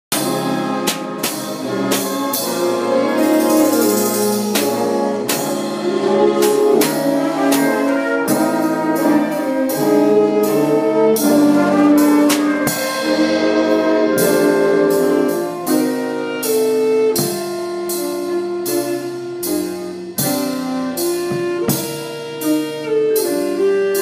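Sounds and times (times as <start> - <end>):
brass band playing slow ballad: 0.1 - 24.0
drum kit with cymbals: 0.1 - 24.0.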